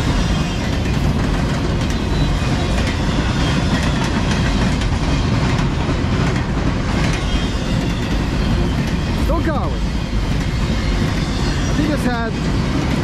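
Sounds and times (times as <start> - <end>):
train cars rolling rumble: 0.0 - 13.0.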